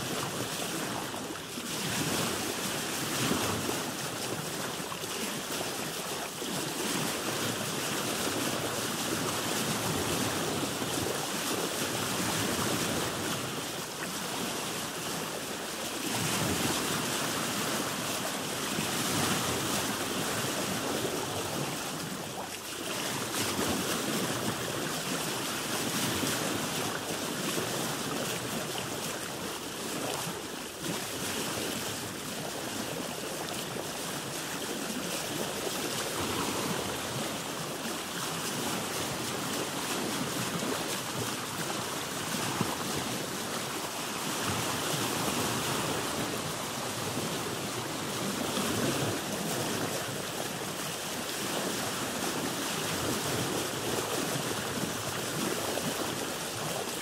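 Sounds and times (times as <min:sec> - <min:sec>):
water lapping against boat: 0:00.0 - 0:57.0
wind: 0:00.0 - 0:57.0.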